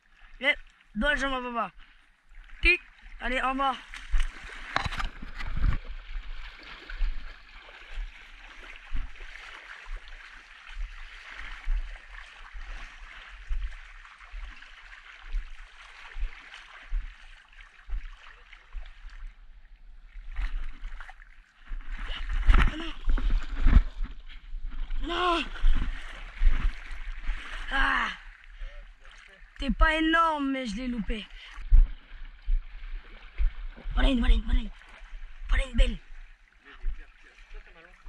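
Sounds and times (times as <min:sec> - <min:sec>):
water swishing and splashing: 0:00.0 - 0:38.0.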